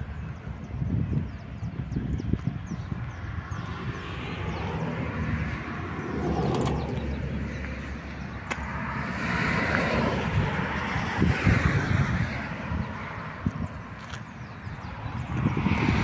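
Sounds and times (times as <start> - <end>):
highway traffic rumble: 0.0 - 16.0
vehicles passing: 0.0 - 16.0.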